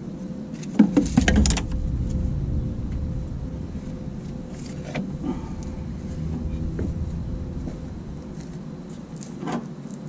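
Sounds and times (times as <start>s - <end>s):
steady low rumble: 1.0s - 9.5s.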